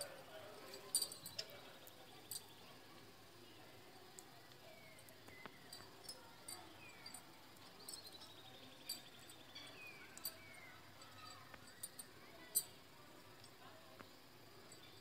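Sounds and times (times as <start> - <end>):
faint bird chirps: 1.3 - 12.7, 13.4 - 15.0.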